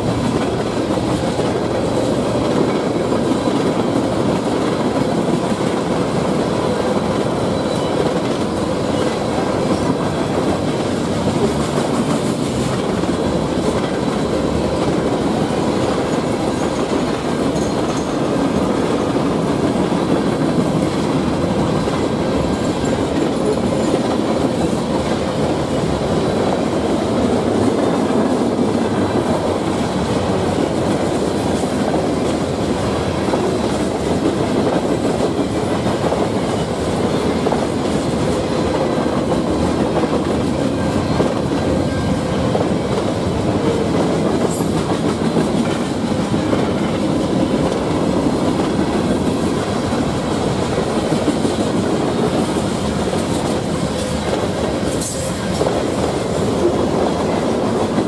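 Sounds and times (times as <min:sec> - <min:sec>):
freight train rumbling past: 0:00.0 - 0:58.0
wheels clacking on rails: 0:00.0 - 0:58.0.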